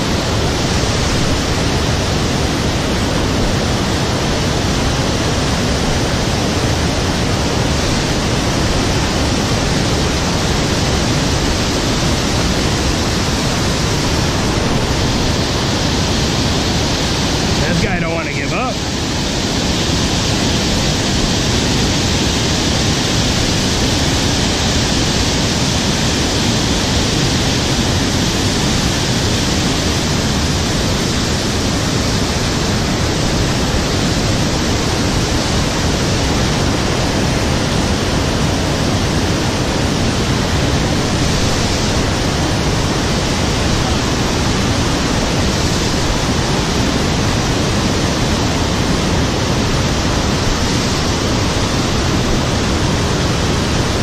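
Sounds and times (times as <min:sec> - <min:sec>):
fast-flowing river water: 0:00.0 - 0:54.0.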